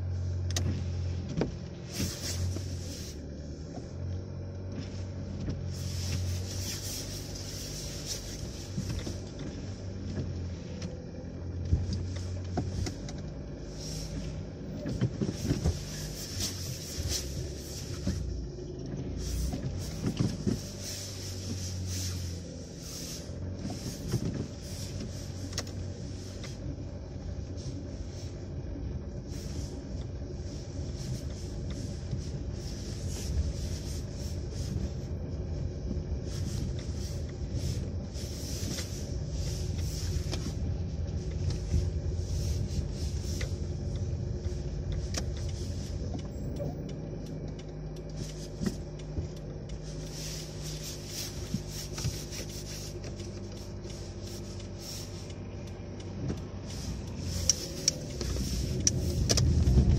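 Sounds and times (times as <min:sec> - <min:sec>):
car engine running inside cabin: 0:00.0 - 0:59.9
light ticks: 0:00.3 - 0:59.9.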